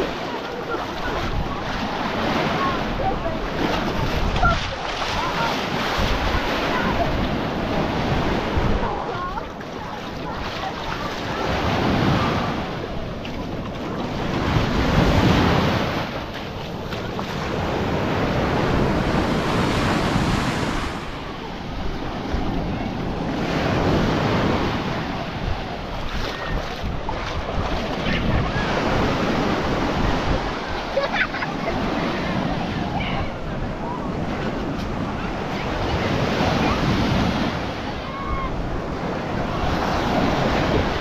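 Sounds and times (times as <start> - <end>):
surf breaking on beach: 0.0 - 41.0
wind buffeting microphone: 0.0 - 41.0.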